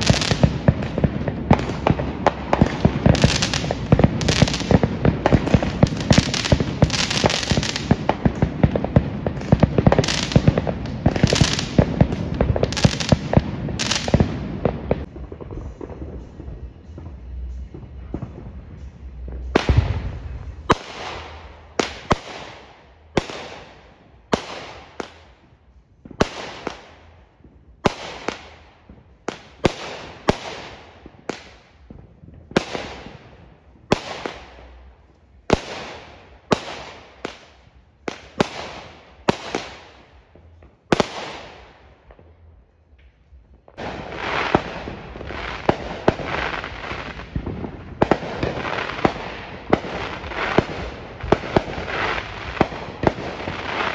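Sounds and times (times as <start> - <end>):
fireworks bangs: 0.0 - 53.9
fireworks crackling and popping: 0.0 - 53.9.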